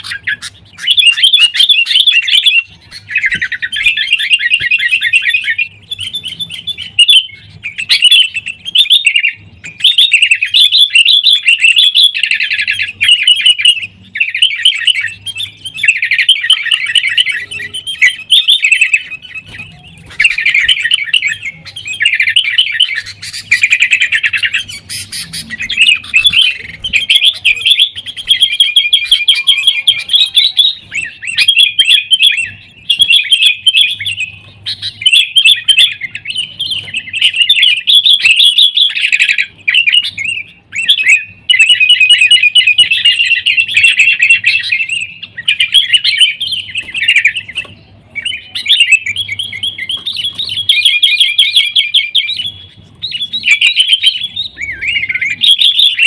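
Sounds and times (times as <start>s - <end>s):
birds chattering: 0.0s - 56.0s.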